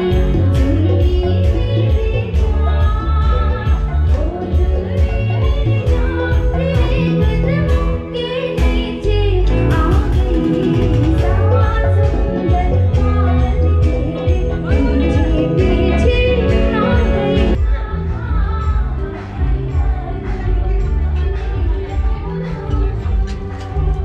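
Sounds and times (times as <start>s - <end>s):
live band music over speakers: 0.0s - 24.0s
woman singing into a microphone: 0.0s - 24.0s.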